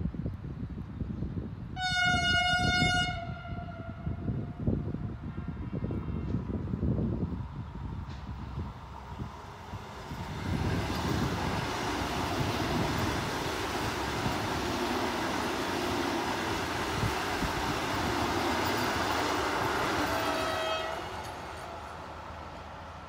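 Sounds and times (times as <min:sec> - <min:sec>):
wheels rushing on rails: 0:03.6 - 0:23.0
rushing air: 0:04.3 - 0:23.0.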